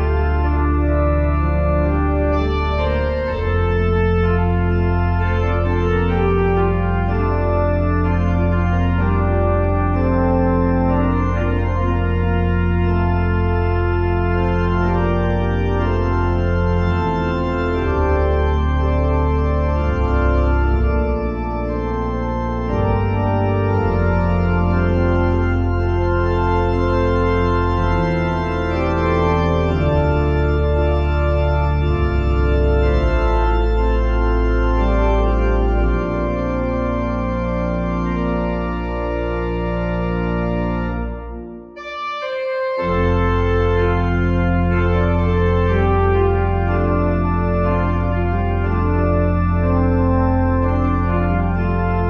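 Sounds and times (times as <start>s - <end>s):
organ playing sustained chords: 0.0s - 52.0s.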